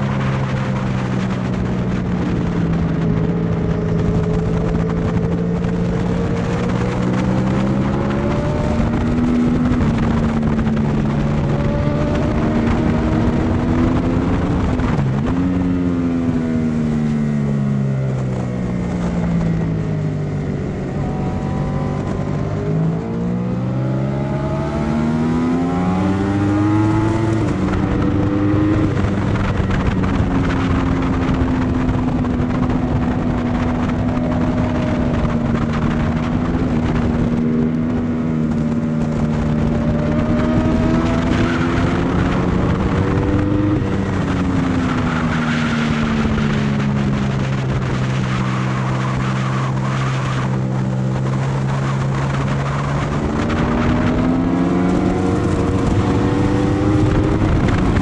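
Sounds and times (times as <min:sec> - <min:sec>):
motorcycle engine at racing pace: 0:00.0 - 0:58.0.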